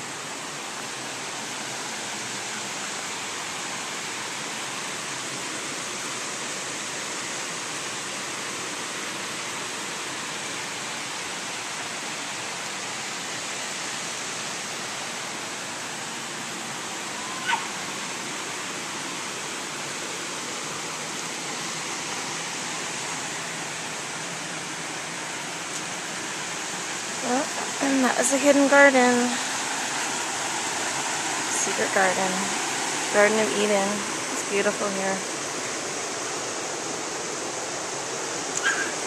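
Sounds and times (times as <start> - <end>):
water spilling over stone cascades: 0.0 - 39.0.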